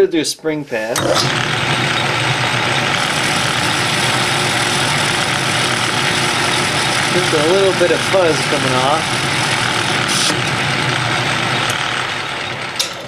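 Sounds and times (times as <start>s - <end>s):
metal lathe motor and gear hum: 1.0s - 13.0s.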